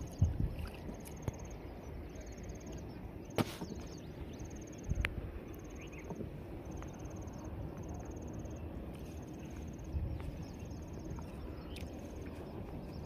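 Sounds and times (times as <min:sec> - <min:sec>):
insect chirping trills: 0:00.0 - 0:13.0
low outdoor rumble: 0:00.0 - 0:13.0.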